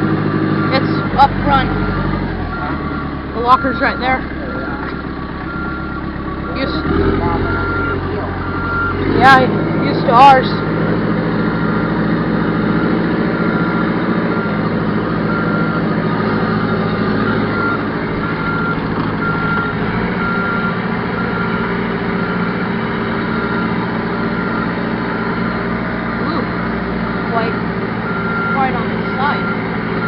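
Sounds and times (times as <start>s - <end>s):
back-up alarm beeping: 0.0s - 10.7s, 11.5s - 26.6s, 27.2s - 30.0s
backhoe engine running: 0.0s - 30.0s.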